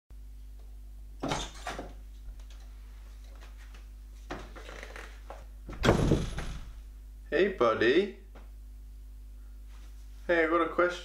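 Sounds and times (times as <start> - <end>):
steady low hum: 1.9 - 11.0.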